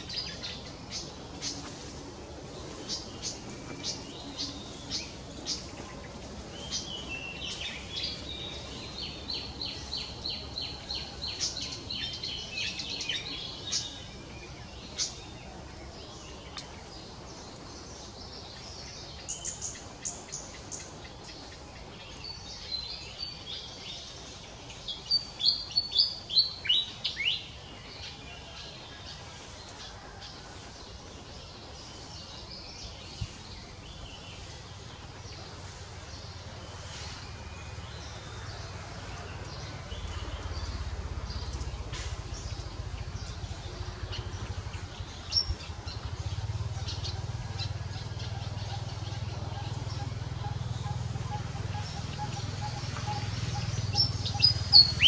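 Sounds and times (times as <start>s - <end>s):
outdoor hiss: 0.0s - 48.3s
small birds chirping: 0.0s - 55.0s.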